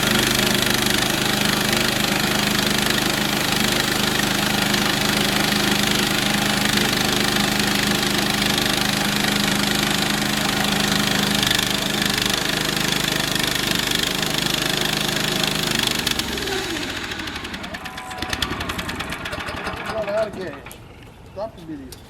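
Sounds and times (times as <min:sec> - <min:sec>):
sawmill sawing a log: 0:00.0 - 0:20.4
small gasoline engine running: 0:00.0 - 0:20.7.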